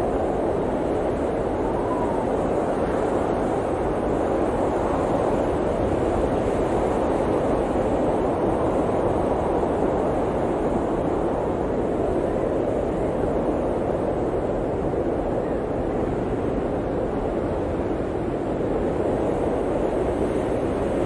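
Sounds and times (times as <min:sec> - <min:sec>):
blizzard wind rushing: 0:00.0 - 0:21.0.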